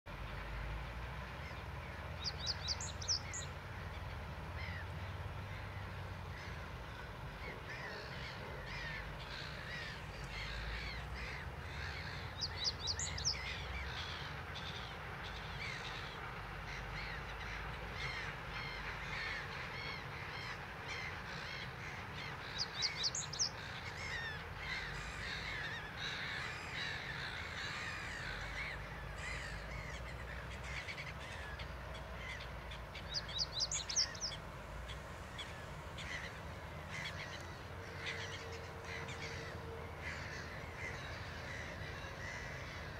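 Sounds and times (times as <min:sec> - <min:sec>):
reed bunting song: 0:00.1 - 0:42.9
chatter of many birds: 0:01.4 - 0:42.9.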